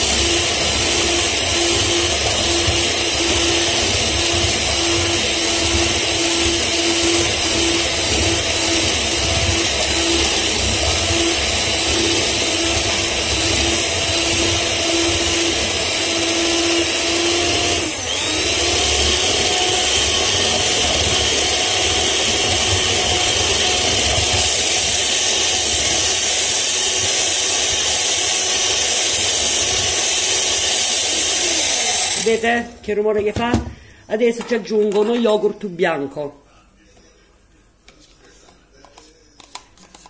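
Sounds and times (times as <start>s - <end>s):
electric hand mixer running: 0.0s - 32.7s.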